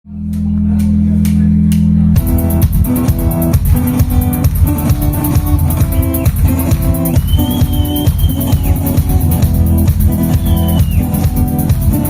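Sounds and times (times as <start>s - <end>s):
rock band playing live: 2.1s - 12.0s.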